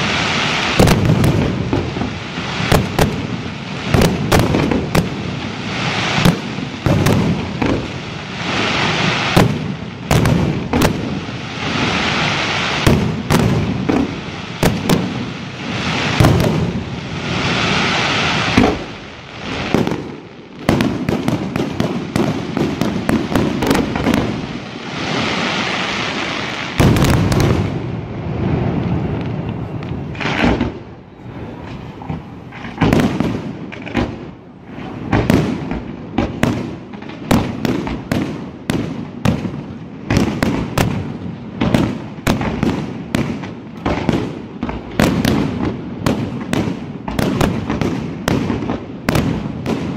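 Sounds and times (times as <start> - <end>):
fireworks bangs: 0.0 - 49.9
fireworks crackling: 0.0 - 49.9.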